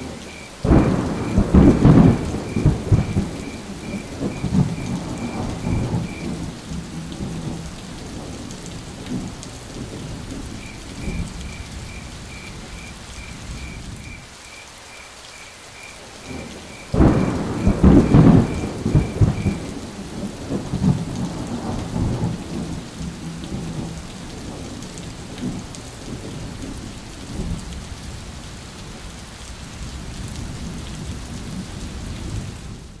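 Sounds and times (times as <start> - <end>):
thunder rumbling: 0.0 - 14.3, 16.0 - 28.2
steady falling rain: 0.0 - 33.0.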